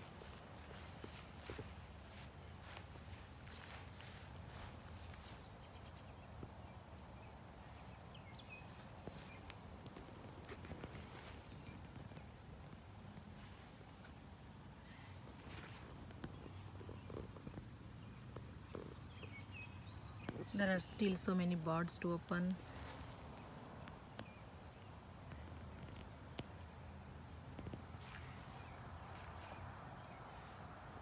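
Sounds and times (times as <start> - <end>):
cricket chirping: 0.0 - 20.5, 22.6 - 31.0.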